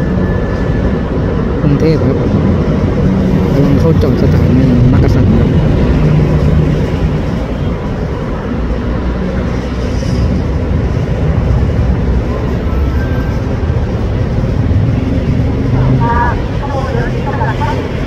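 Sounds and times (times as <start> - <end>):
diesel train rumbling: 0.0 - 18.0.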